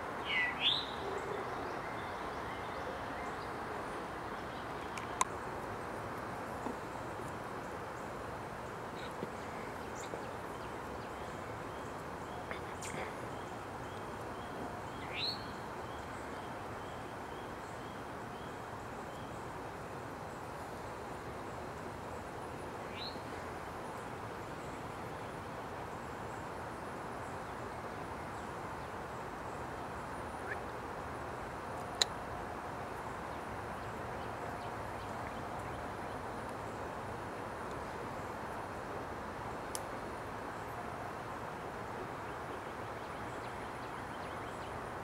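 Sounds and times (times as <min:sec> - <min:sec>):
outdoor background noise: 0:00.0 - 0:45.0.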